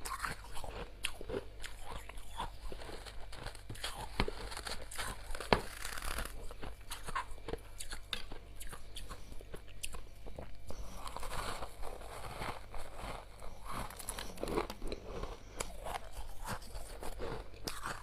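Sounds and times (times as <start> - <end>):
frost being chewed: 0.0 - 18.0.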